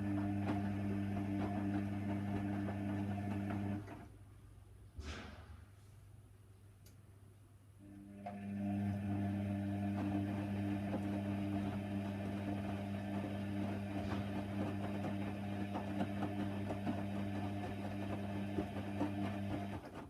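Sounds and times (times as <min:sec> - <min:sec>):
washer dryer humming: 0:00.0 - 0:04.1, 0:07.8 - 0:20.0.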